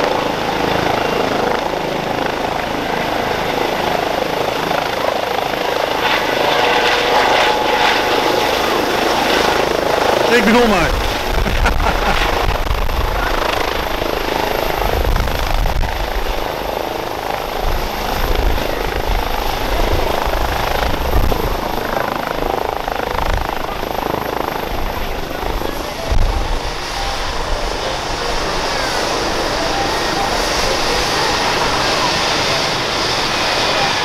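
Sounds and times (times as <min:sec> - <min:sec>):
helicopter rotor noise: 0:00.0 - 0:34.0
helicopter turbine whine: 0:00.0 - 0:34.0.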